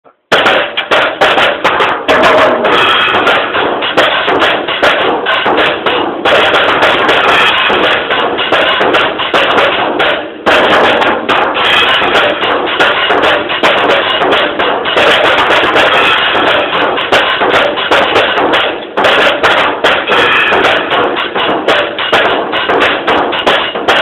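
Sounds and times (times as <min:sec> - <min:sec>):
fast drum solo: 0:00.3 - 0:24.0.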